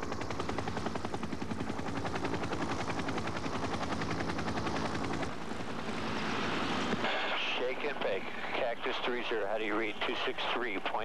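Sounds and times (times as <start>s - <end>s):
helicopter engine drone: 0.0s - 11.0s
helicopter rotor chopping: 0.0s - 11.0s.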